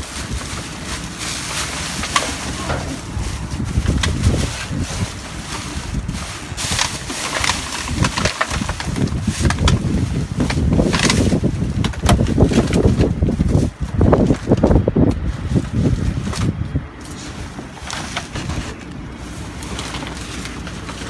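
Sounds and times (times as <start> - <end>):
low rumble: 0.0 - 21.0
plastic bags rustling: 0.0 - 21.0.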